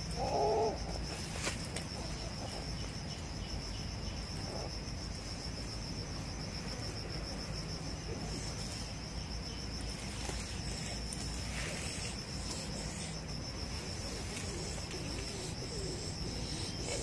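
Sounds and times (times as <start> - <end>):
insect chirring trill: 0.0 - 17.0.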